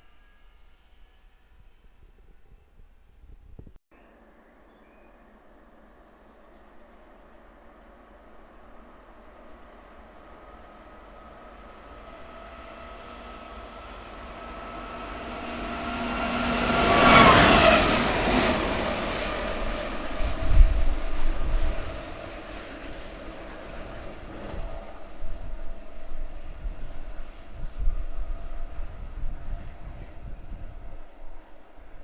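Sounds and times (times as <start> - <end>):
diesel locomotive passing: 4.0 - 32.0.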